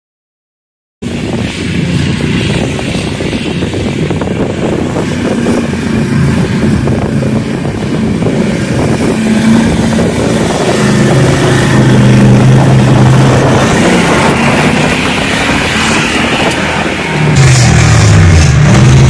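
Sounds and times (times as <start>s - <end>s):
truck engines revving: 1.0s - 19.0s.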